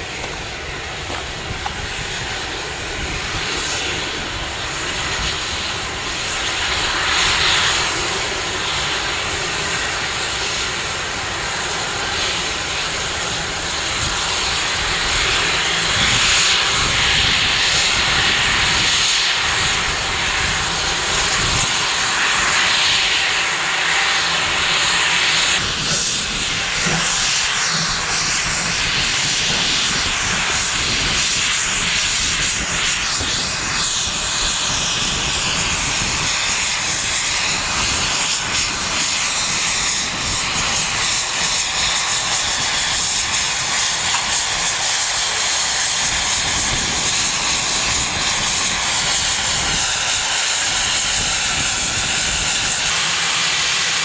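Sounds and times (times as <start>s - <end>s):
steam locomotive exhaust and hiss: 0.0s - 54.0s.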